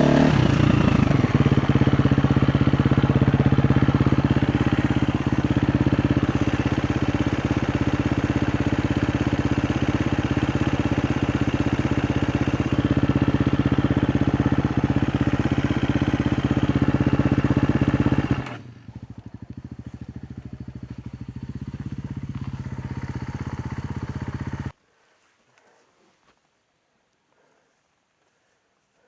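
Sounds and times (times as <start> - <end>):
motorcycle engine revving and idling: 0.0 - 24.8.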